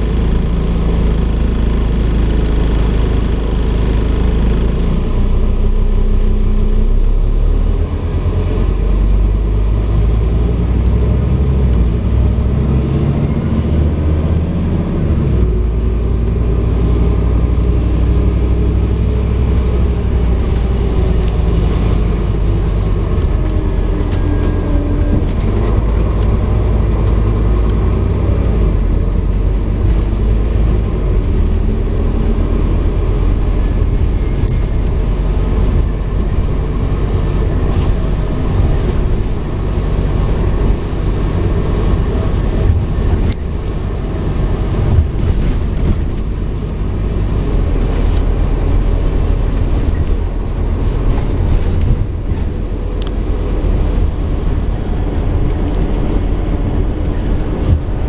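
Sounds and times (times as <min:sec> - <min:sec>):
bus diesel engine: 0:00.0 - 0:58.0
road noise: 0:00.0 - 0:58.0.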